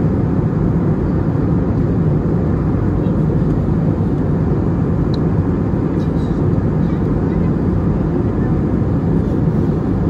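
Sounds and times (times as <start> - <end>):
airplane cabin roar: 0.0 - 10.0.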